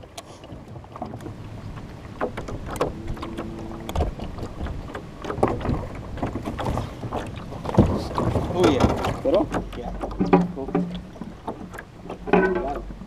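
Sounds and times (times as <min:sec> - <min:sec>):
knocks from boat: 0:00.5 - 0:13.0.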